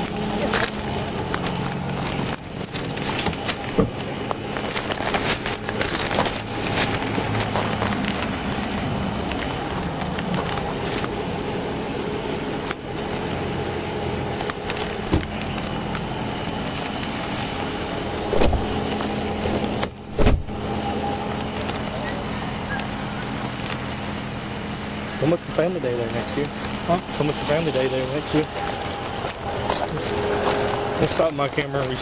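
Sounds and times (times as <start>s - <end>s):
vehicle idling hum: 0.0s - 32.0s.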